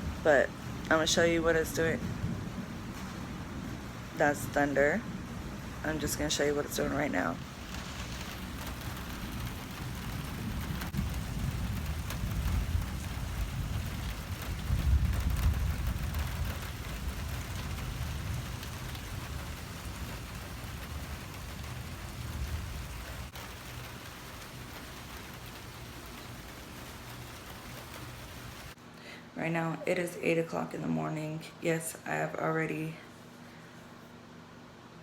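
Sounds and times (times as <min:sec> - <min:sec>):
heavy rain pouring: 0:00.0 - 0:28.8
rolling thunder: 0:00.0 - 0:28.8.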